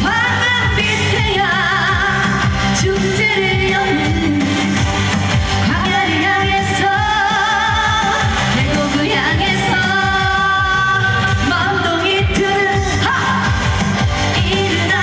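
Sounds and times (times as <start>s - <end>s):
pop backing track with beat: 0.0s - 15.0s
woman singing with vibrato: 0.0s - 15.0s.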